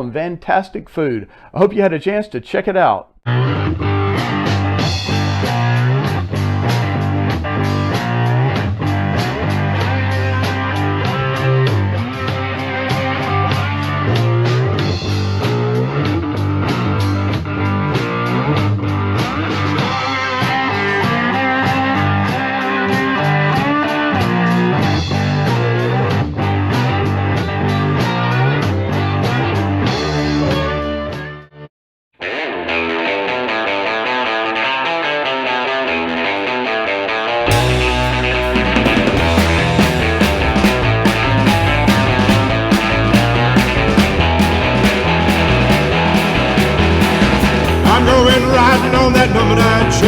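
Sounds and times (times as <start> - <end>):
electric guitar: 3.3 - 31.6, 32.2 - 50.0
blues-rock band instrumental: 3.4 - 31.3, 32.2 - 50.0.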